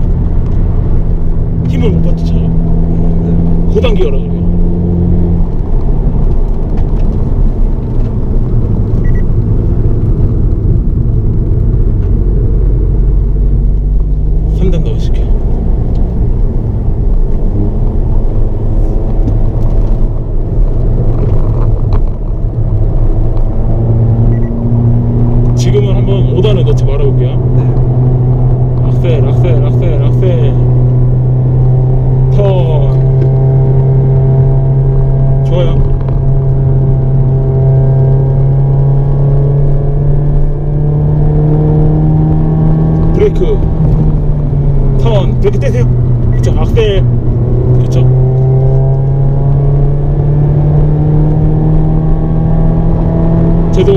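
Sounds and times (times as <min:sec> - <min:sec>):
car engine under throttle: 0:00.0 - 0:53.9
road rumble: 0:00.0 - 0:53.9.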